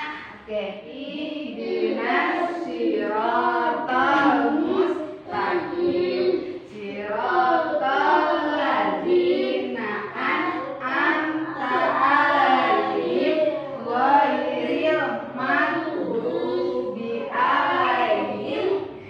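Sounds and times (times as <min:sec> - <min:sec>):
woman and children chanting: 0:00.0 - 0:19.0.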